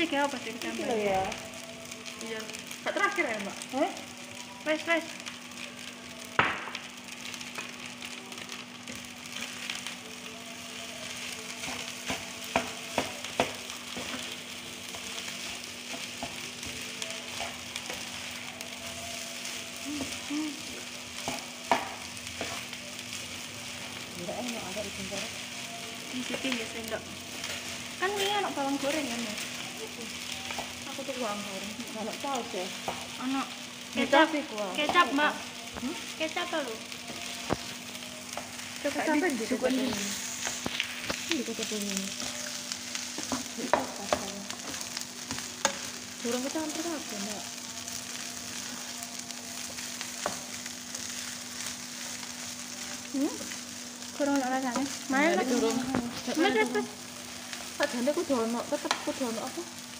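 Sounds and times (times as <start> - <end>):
rice sizzling in a frying pan: 0.0 - 59.9.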